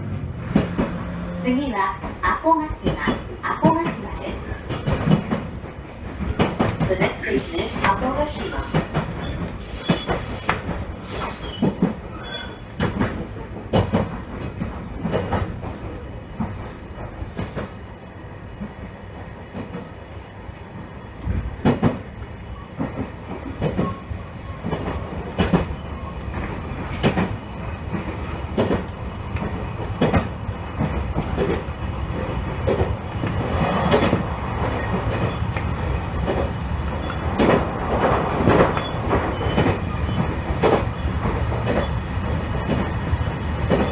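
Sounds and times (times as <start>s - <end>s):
train rumbling on track: 0.0s - 43.9s.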